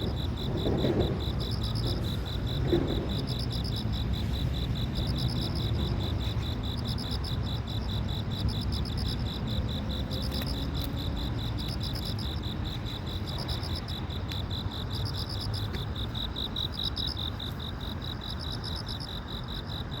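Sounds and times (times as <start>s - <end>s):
crickets fast pulsed chirp: 0.0s - 20.0s
higher insect call in bursts: 0.0s - 20.0s.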